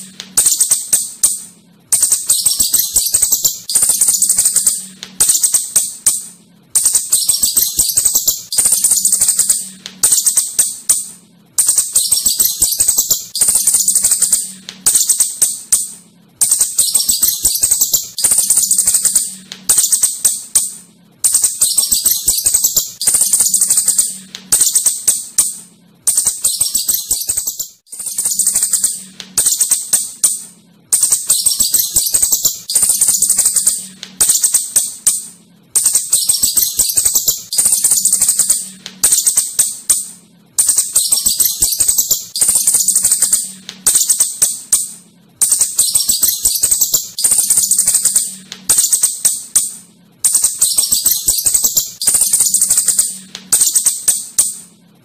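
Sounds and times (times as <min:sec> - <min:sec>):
shrew chattering squeaks: 0:00.0 - 0:54.7.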